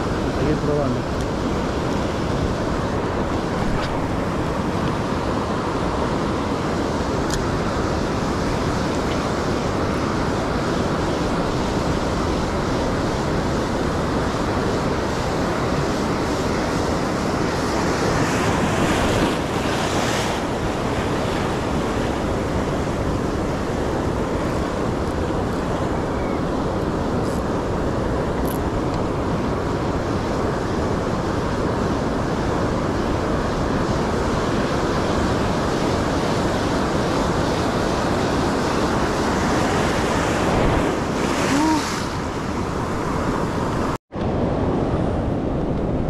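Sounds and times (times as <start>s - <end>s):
ocean surf breaking on beach: 0.0s - 46.0s
wind buffeting microphone: 0.0s - 46.0s.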